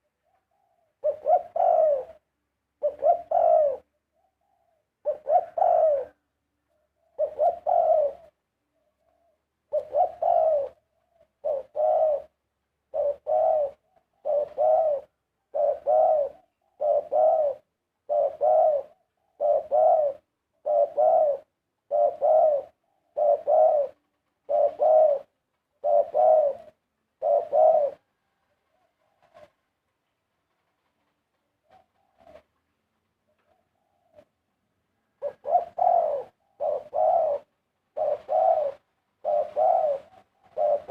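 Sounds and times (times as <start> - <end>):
dove cooing: 0.0 - 29.6, 31.6 - 32.6, 33.3 - 34.4, 35.0 - 40.9.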